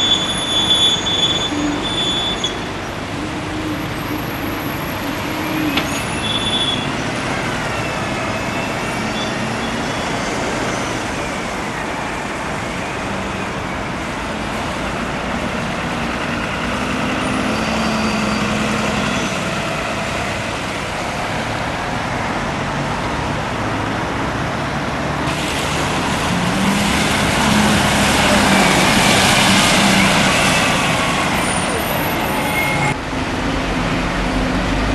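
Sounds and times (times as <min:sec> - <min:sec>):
heavy diesel vehicles running: 0:00.0 - 0:34.9.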